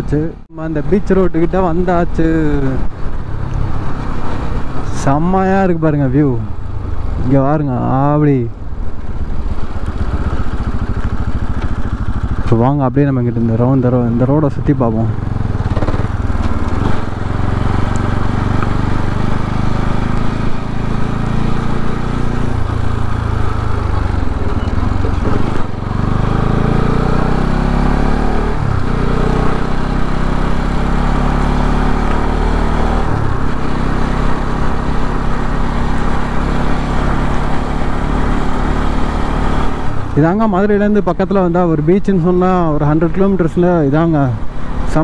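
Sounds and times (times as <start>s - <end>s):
motorcycle engine running: 6.2s - 45.0s.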